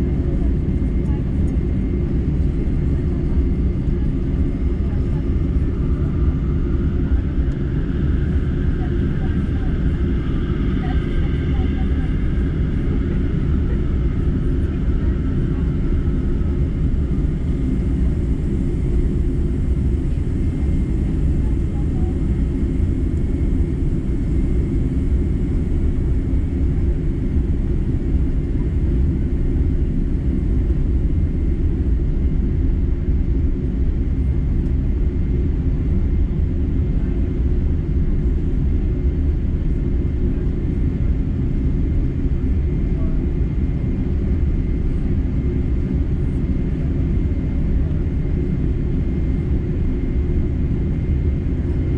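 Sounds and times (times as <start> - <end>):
jet engine rumble with whine: 0.0 - 51.9.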